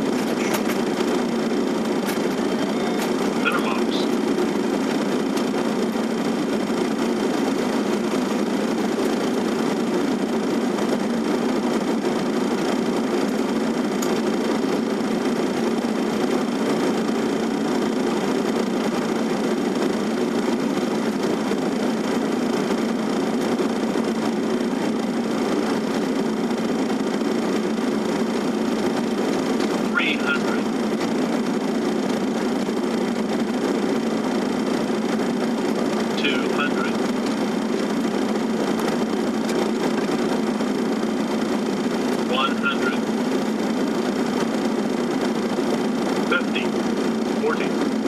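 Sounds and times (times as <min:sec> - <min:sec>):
airliner cockpit engine and airflow noise: 0:00.0 - 0:48.0.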